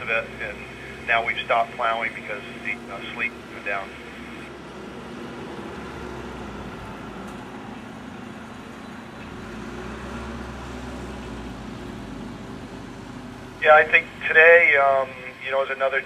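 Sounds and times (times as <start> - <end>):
street noise: 0.0 - 16.0
vehicle engine low rumble: 0.0 - 16.0.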